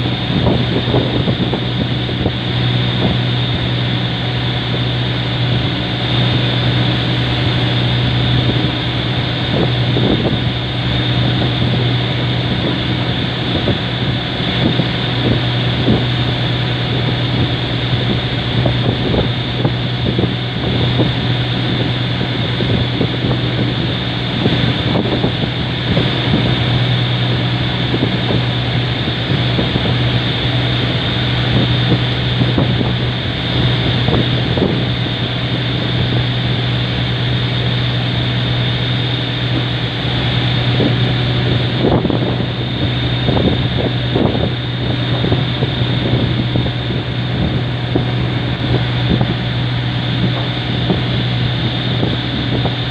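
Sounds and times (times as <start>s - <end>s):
boat engine drone: 0.0s - 52.9s
water rushing past hull: 0.0s - 52.9s
waves knocking against boat: 0.0s - 52.9s
wind buffeting microphone: 0.0s - 52.9s.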